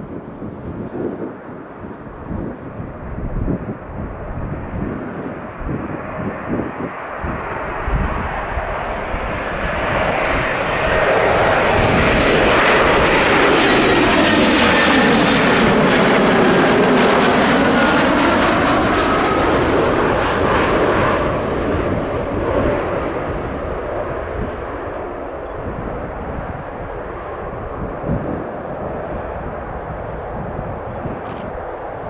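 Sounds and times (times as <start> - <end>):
airliner engine noise: 0.0 - 32.0
wind rumble on microphone: 0.0 - 32.0.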